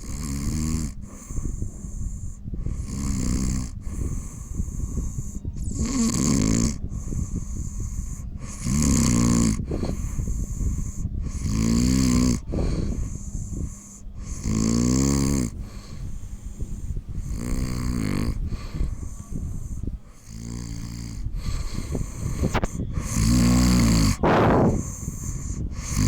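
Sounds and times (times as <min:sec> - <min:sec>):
person snoring loudly: 0:00.0 - 0:02.0, 0:02.6 - 0:26.0.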